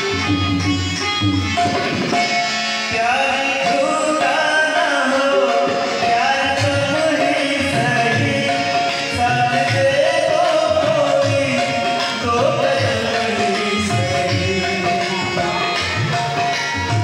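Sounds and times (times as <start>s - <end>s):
hand drum beat: 0.0s - 2.6s, 5.5s - 17.0s
man singing wavering melody: 2.9s - 17.0s.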